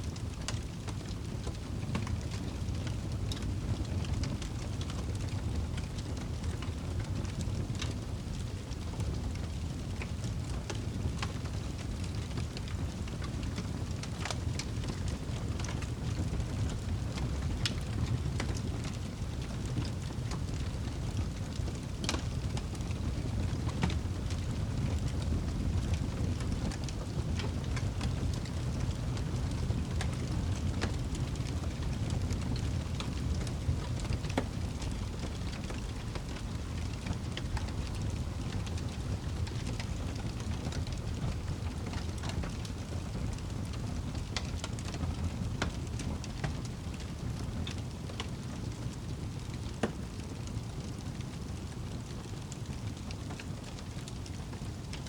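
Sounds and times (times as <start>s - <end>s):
campfire crackles and pops: 0.1s - 55.0s.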